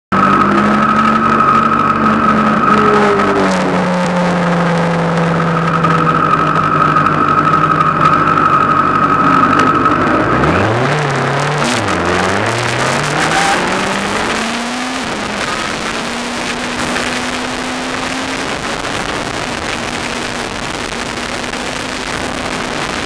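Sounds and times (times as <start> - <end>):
car engine idling: 0.1 - 23.0
high whine: 0.1 - 23.0.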